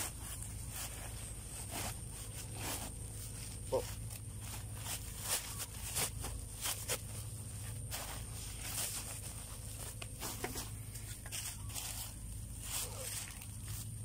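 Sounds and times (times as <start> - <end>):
dry leaves crackling in sack: 0.0 - 14.0.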